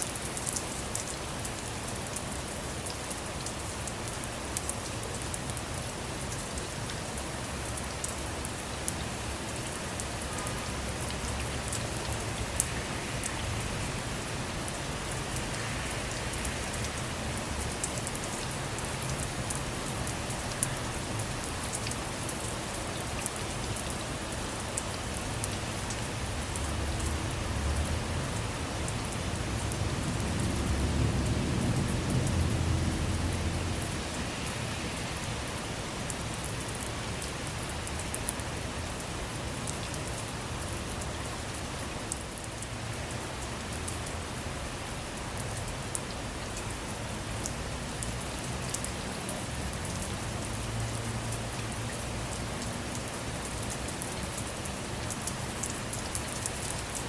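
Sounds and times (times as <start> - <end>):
rain falling on a car: 0.0 - 57.0.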